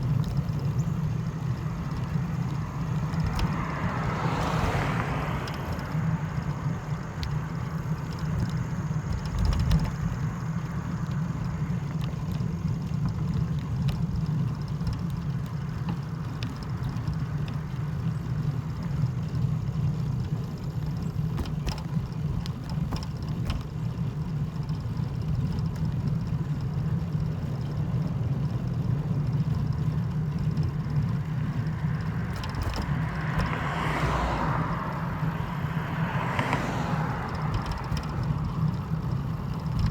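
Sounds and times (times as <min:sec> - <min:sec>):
faint clicks: 0:00.0 - 0:19.4, 0:20.2 - 0:39.9
vehicle engine rumbling: 0:00.0 - 0:39.9.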